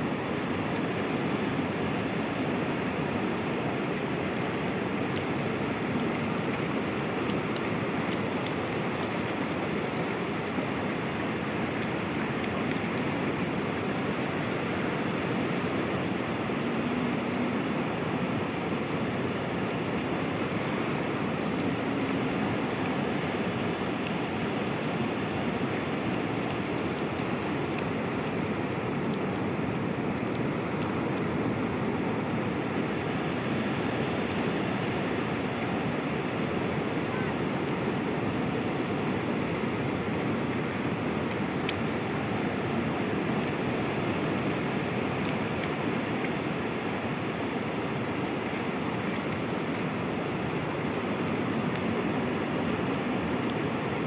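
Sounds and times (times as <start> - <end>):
sea surf washing on shore: 0.0 - 54.0.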